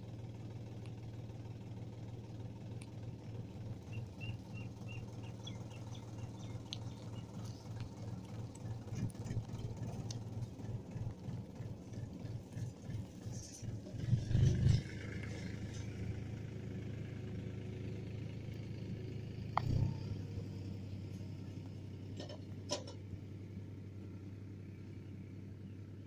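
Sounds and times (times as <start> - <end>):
low rumble with hum: 0.0 - 26.0.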